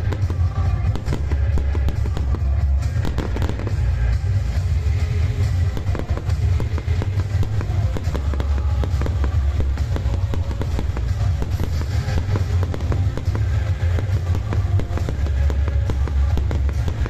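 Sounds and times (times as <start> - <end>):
fireworks bangs: 0.0 - 17.0
music over loudspeakers: 0.0 - 17.0.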